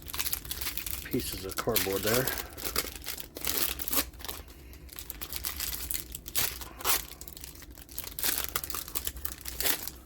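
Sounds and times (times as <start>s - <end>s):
packaging torn and crinkled: 0.0s - 10.0s.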